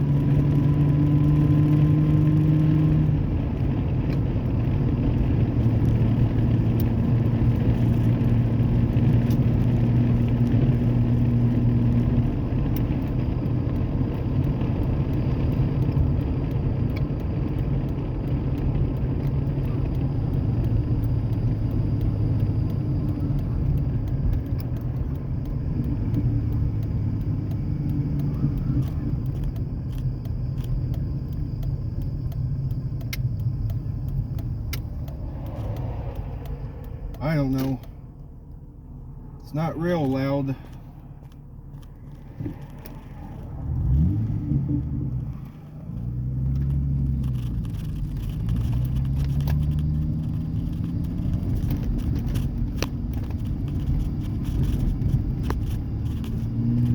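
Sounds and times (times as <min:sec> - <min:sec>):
truck exhaust drone inside cab: 0:00.0 - 0:56.9.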